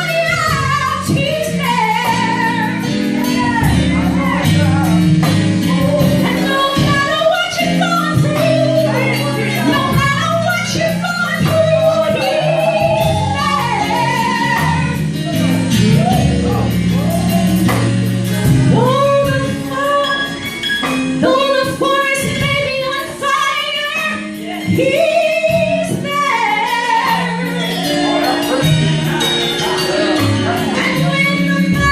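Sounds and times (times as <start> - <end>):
woman singing gospel: 0.0 - 16.8, 18.5 - 20.4, 21.2 - 31.9
instrumental accompaniment: 0.0 - 31.9.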